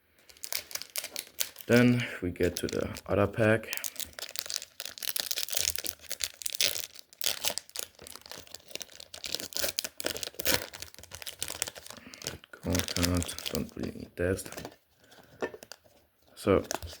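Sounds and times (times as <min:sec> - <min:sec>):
foil wrapper tearing and crinkling: 0:00.2 - 0:03.1, 0:03.7 - 0:14.7.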